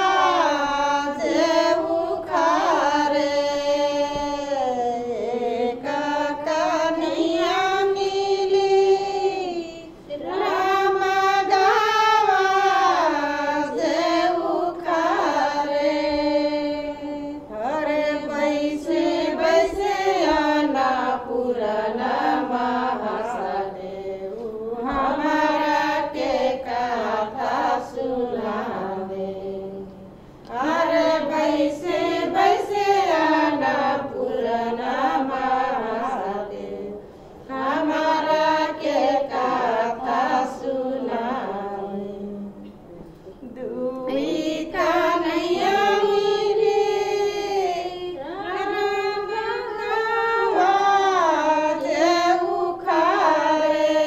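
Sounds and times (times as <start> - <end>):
women singing: 0.0 - 54.0.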